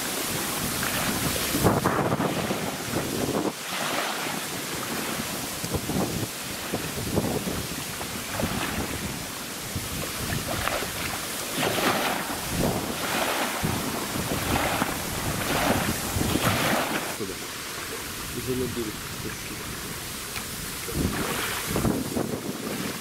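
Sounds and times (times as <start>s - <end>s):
waves washing against shore: 0.0s - 23.0s
wind buffeting microphone: 0.2s - 23.0s.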